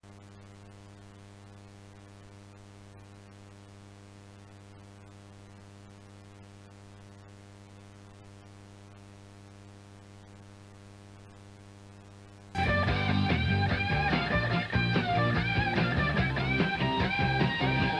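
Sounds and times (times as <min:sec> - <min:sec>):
electrical hum: 0:00.0 - 0:17.9
faint tape hiss: 0:00.0 - 0:17.9.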